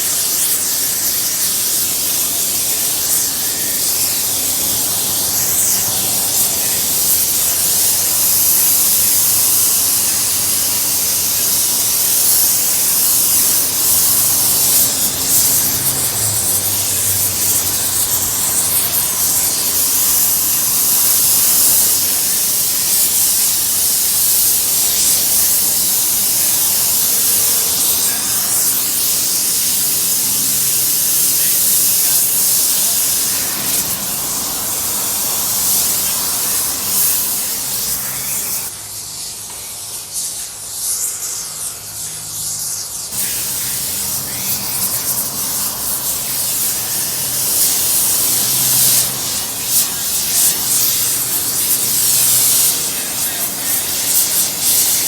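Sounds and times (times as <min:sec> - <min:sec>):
loud hissing: 0:00.0 - 0:39.4, 0:42.7 - 0:55.0.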